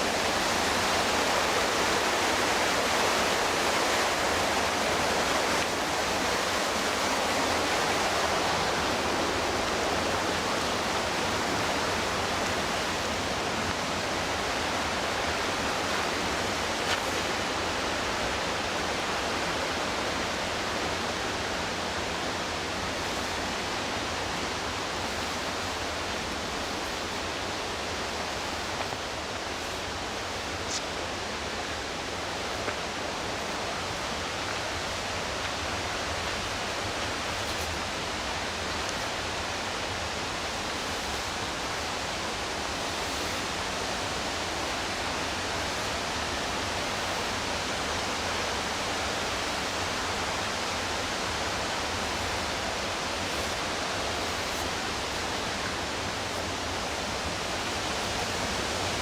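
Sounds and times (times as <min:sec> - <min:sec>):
river rushing over whitewater: 0:00.0 - 0:59.0.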